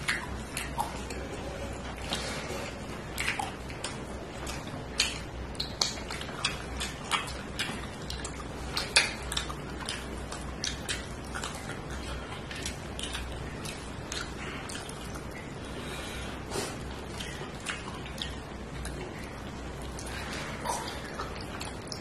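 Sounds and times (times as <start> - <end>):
wet chewing and smacking: 0.0 - 22.0.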